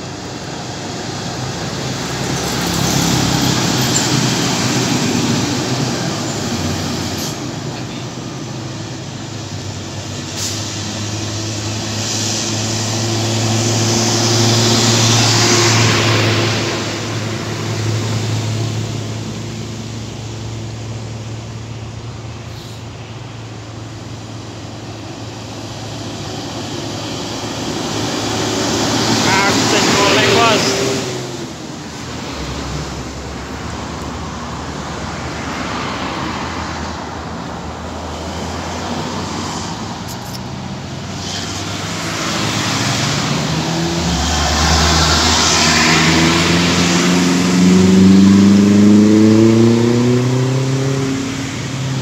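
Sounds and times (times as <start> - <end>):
trucks passing on road: 0.0 - 52.0.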